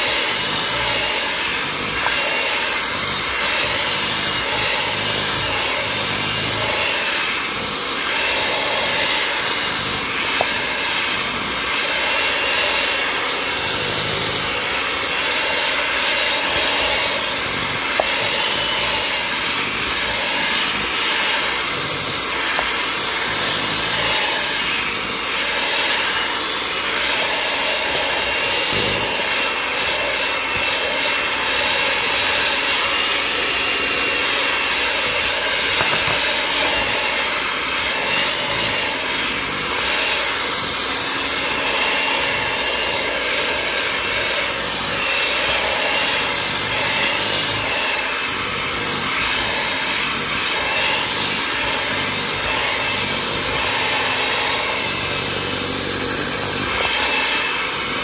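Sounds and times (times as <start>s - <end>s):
electric mixer motor whine: 0.0s - 58.0s.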